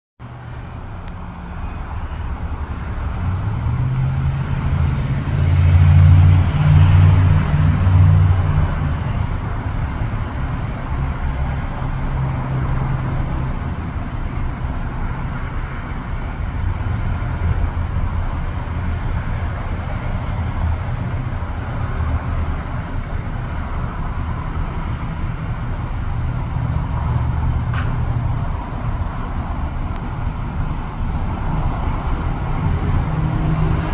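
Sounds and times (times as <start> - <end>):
road traffic rumble: 0.2 - 33.9.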